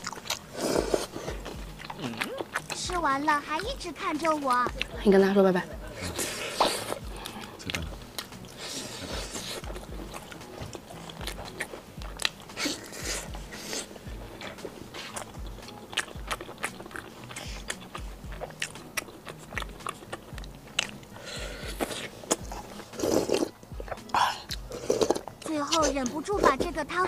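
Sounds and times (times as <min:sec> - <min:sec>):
close-up chewing and lip smacks: 0:00.0 - 0:26.8
soft background music beat: 0:00.0 - 0:27.0.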